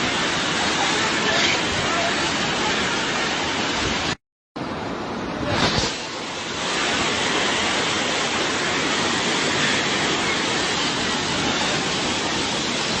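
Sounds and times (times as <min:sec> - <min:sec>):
rushing storm noise: 0:00.0 - 0:13.0.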